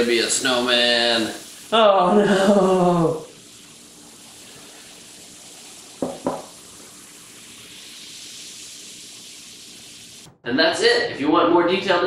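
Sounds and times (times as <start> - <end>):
foam fizzing: 0.0 - 10.3.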